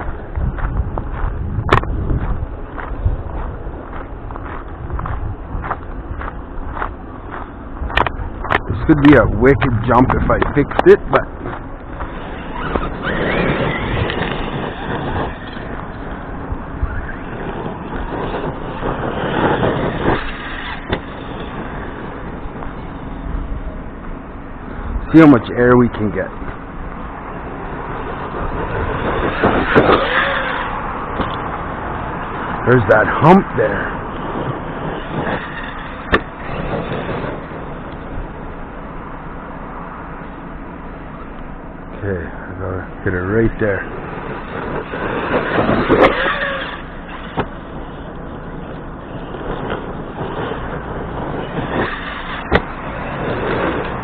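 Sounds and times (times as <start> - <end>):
rc truck motor and tyres: 0.0 - 54.0
steady rushing noise: 0.0 - 54.0.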